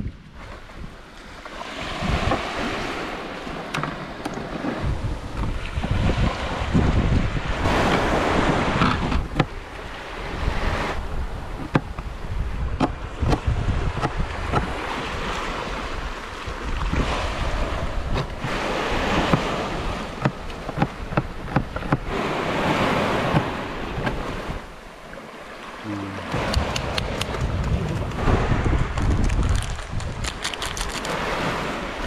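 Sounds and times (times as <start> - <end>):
wind buffeting microphone: 0.0 - 24.8, 26.2 - 32.0
sea waves washing in: 0.0 - 32.0.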